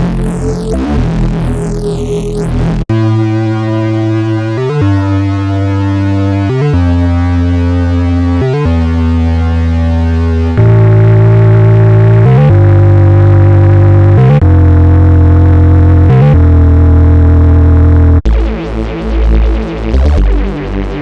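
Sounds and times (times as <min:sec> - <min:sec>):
sustained synth notes: 0:00.0 - 0:18.3
synth with sweeping filter: 0:00.0 - 0:21.0.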